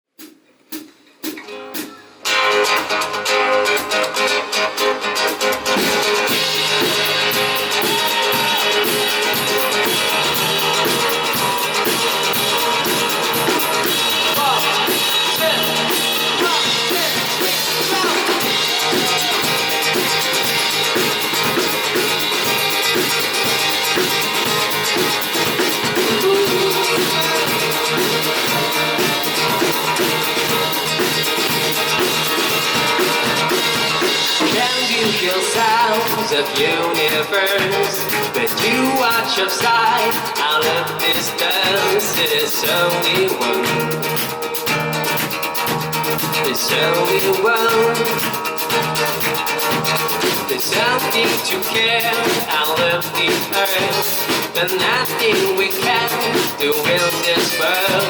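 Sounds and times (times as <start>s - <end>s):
rock band playing live: 0.7s - 58.0s.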